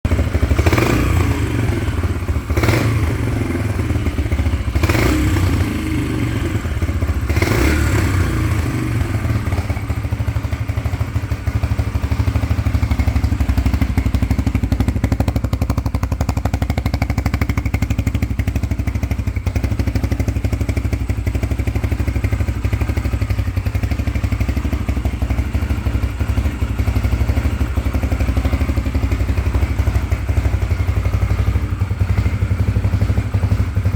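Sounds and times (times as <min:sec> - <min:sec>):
motorcycle engine rumbling: 0:00.0 - 0:33.9.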